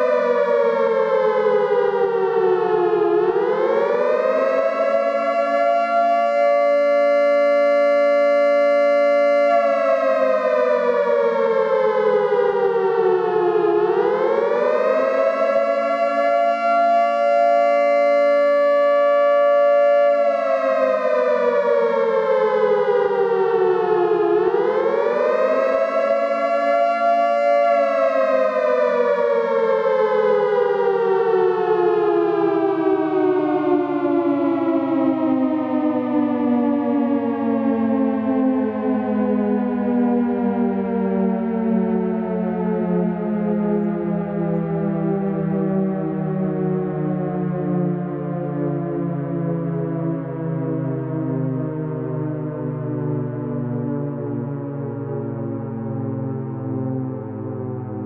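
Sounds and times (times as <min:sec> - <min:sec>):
air raid siren wailing: 0:00.0 - 0:58.0.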